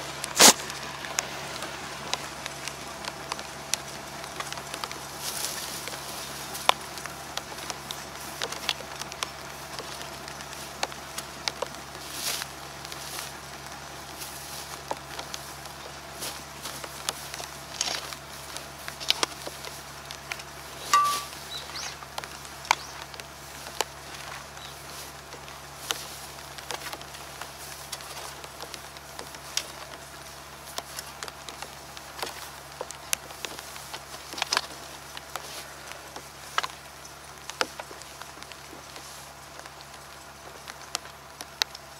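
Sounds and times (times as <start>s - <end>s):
earth pattering on plastic sheeting: 0.0s - 41.9s.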